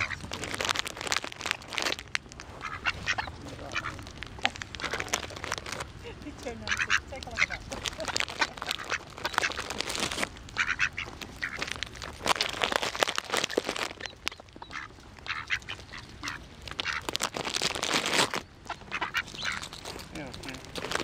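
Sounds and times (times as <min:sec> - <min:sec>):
mallards quacking: 0:00.0 - 0:00.8, 0:02.5 - 0:19.8.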